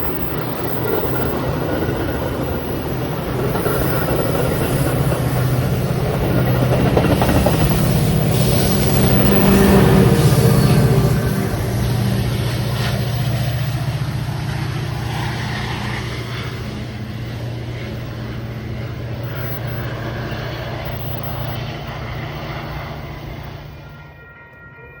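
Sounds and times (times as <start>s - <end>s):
diesel train engine drone: 0.0s - 25.0s
train rumbling: 0.0s - 25.0s.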